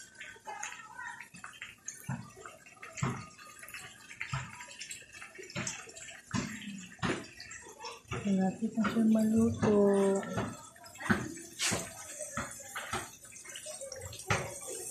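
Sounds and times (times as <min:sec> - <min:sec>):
sausages sizzling in oil: 0:00.0 - 0:14.9.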